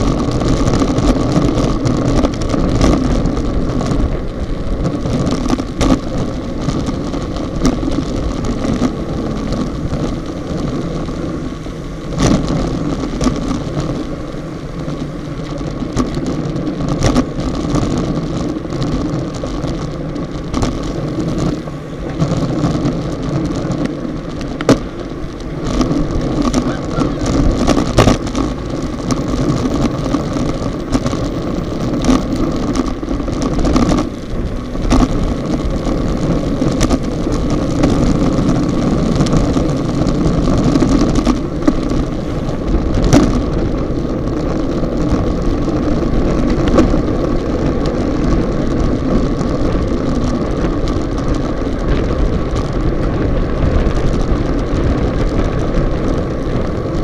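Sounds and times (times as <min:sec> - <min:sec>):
bike tyres humming on asphalt: 0:00.0 - 0:57.0
wind rushing over microphone: 0:00.0 - 0:57.0.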